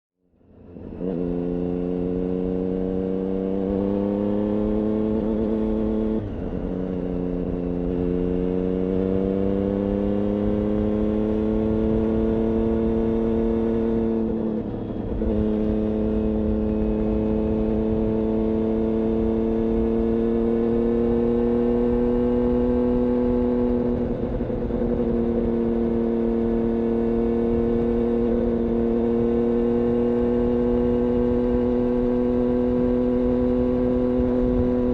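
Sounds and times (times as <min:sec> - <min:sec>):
motorcycle engine running: 0:00.4 - 0:34.9.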